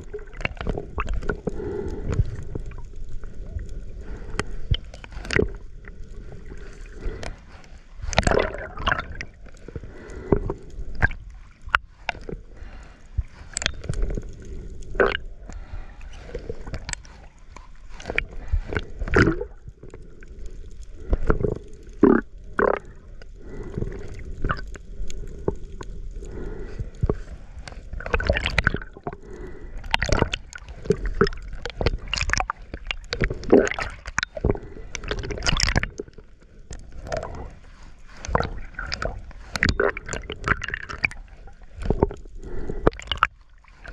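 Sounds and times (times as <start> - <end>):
water gurgling and sloshing: 0.0 - 43.9.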